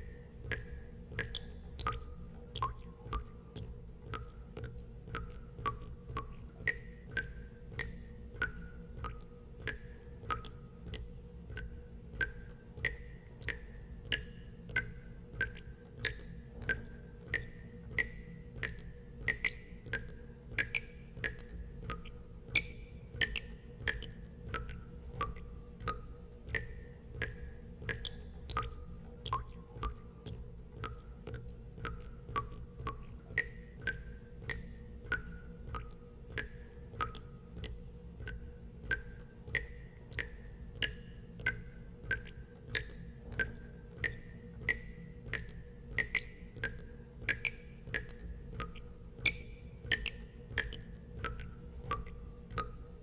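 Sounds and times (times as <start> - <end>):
steady low hum: 0.0 - 53.0
water drops plinking into water: 0.0 - 53.0.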